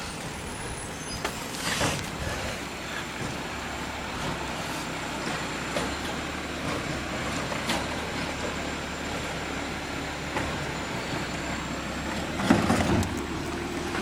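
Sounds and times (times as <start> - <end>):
garbage truck running: 0.0 - 14.0.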